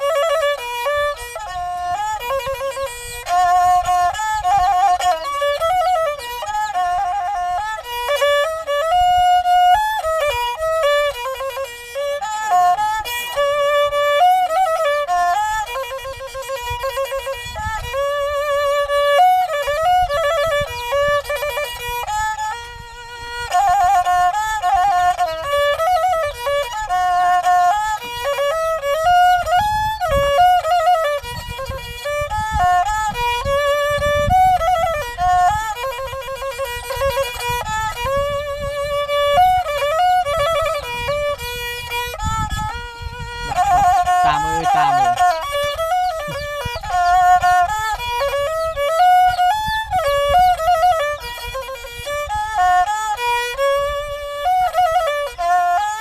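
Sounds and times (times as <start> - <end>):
bowed fiddle melody: 0.0 - 56.0.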